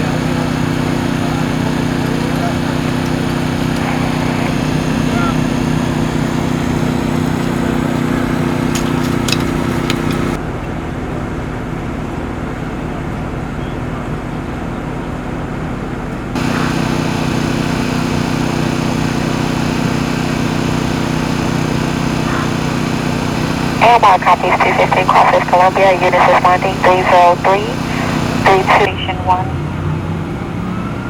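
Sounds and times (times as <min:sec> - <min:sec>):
vehicle engine humming: 0:00.0 - 0:10.4, 0:16.4 - 0:31.0.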